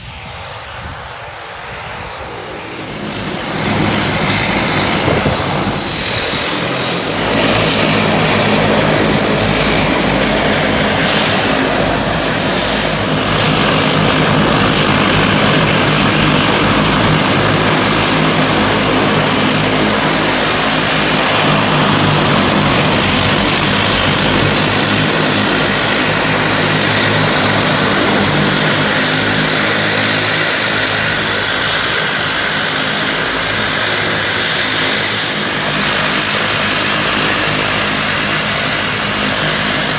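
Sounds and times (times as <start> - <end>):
high turbine whine: 0.0 - 39.9
loud propeller drone: 0.0 - 39.9.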